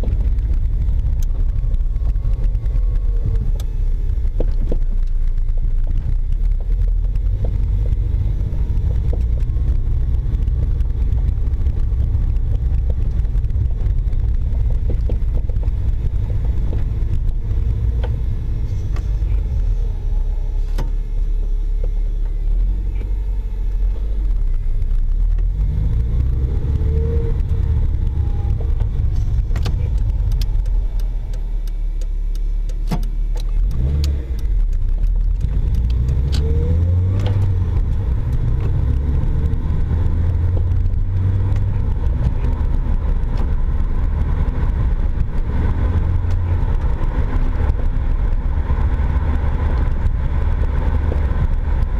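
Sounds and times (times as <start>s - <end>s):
car driving on uneven road: 0.0s - 51.9s
suspension clunks: 0.0s - 51.9s.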